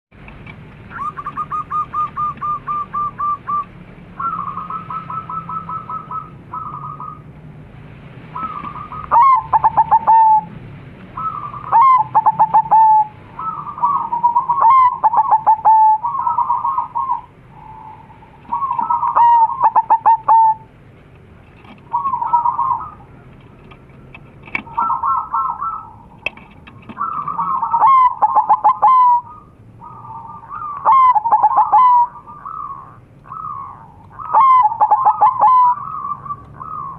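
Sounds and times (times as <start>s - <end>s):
doves cooing: 0.8s - 7.3s, 8.3s - 20.7s, 21.4s - 36.9s.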